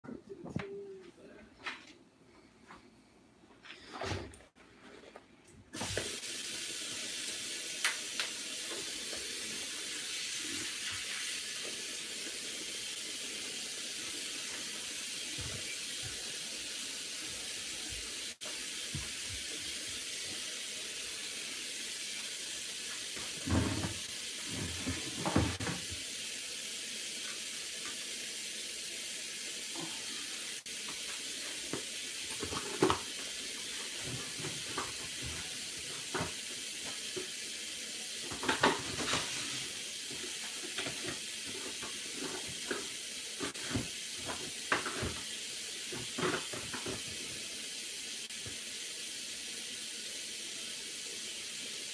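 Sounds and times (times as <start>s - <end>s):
water running from tap: 5.8s - 51.9s.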